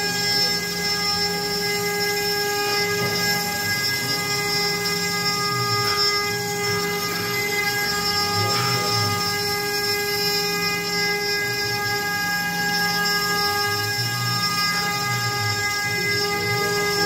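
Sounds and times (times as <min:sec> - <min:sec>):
router spindle whining: 0:00.0 - 0:17.0.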